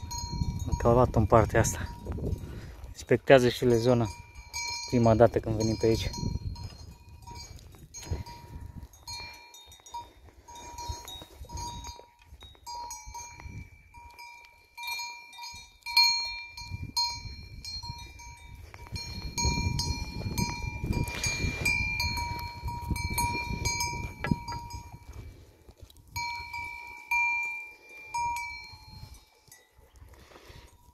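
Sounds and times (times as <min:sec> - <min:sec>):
small bells jingling: 0:00.0 - 0:25.4, 0:26.1 - 0:30.9
low goat bell ringing: 0:00.0 - 0:25.5, 0:26.1 - 0:30.9.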